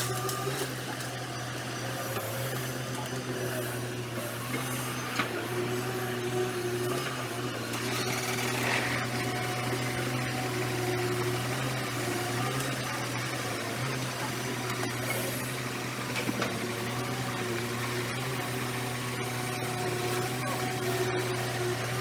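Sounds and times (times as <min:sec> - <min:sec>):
diesel excavator engine running: 0:00.0 - 0:22.0.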